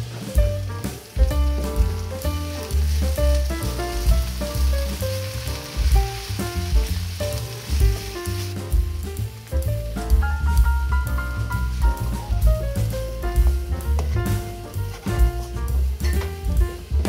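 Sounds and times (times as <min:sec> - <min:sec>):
background music with bass line: 0:00.0 - 0:17.0
food sizzling in a frying pan: 0:00.0 - 0:17.0.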